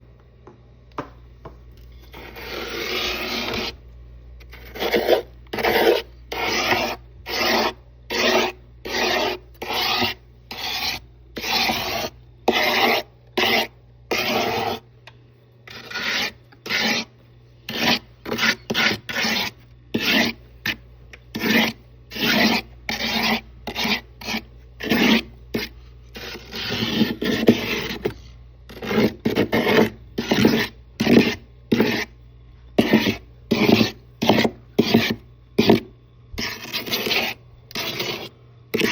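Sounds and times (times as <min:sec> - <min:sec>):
steady low hum: 0:00.0 - 0:38.9
frost being scraped: 0:02.0 - 0:03.8, 0:04.4 - 0:14.8, 0:15.7 - 0:17.1, 0:17.7 - 0:32.2, 0:32.8 - 0:35.8, 0:36.4 - 0:38.9.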